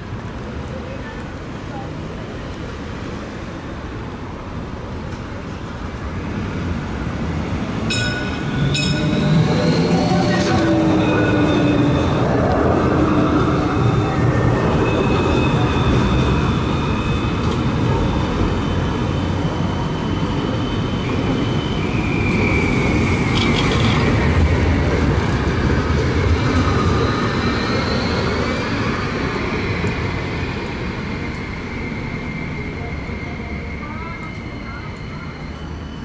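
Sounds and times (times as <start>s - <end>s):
tram wheels rumbling on rails: 0.0s - 36.0s.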